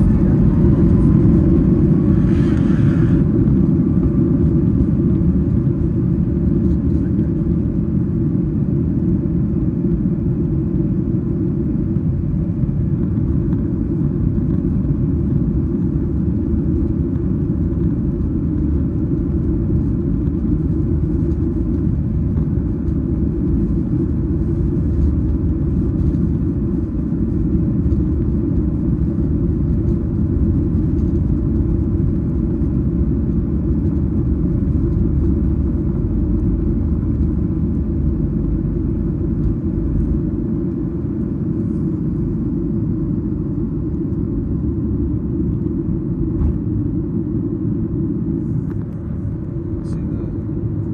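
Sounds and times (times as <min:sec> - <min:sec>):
airplane cabin rumble: 0:00.0 - 0:50.9.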